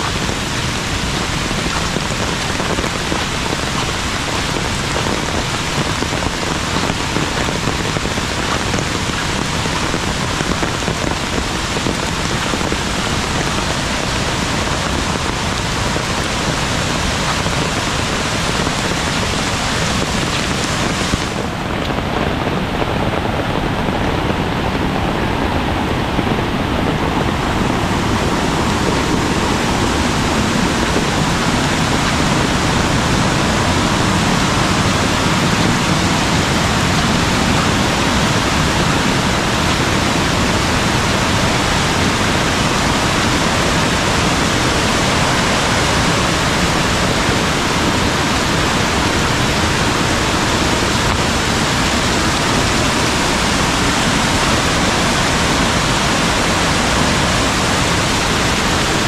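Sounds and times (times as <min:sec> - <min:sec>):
heavy rain: 0:00.0 - 0:59.0
stream water rushing: 0:00.0 - 0:59.0.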